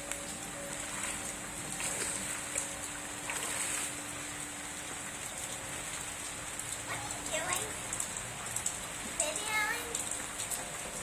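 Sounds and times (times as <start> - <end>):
rain falling on pool and tiles: 0.0 - 11.0.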